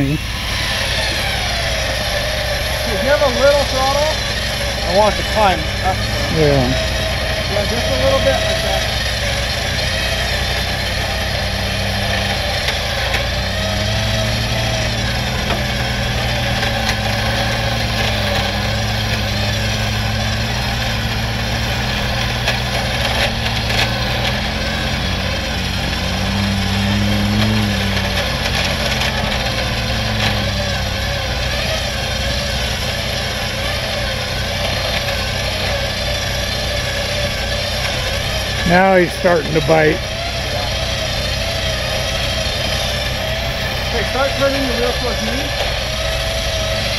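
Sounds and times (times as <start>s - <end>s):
vehicle engines revving: 0.0s - 46.9s.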